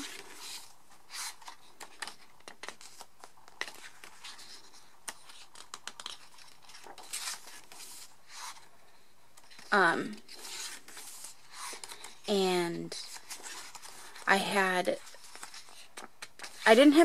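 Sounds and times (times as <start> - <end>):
glossy pages turning: 0.0 - 8.7, 9.3 - 12.3, 13.0 - 14.3, 15.0 - 16.6.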